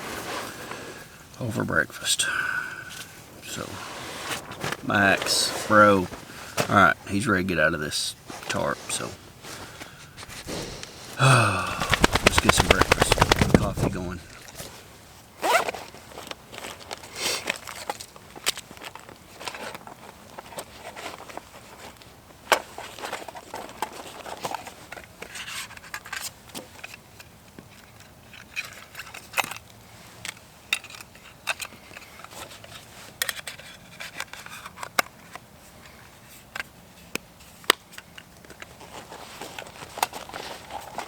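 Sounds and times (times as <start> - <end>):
camp gear rustling and scraping: 0.0 - 1.9, 2.8 - 7.6, 8.2 - 41.0.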